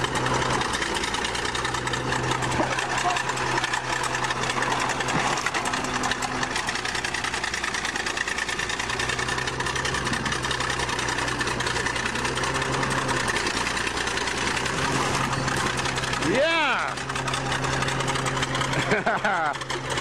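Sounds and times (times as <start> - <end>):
bulldozer diesel engine clattering: 0.0 - 20.0.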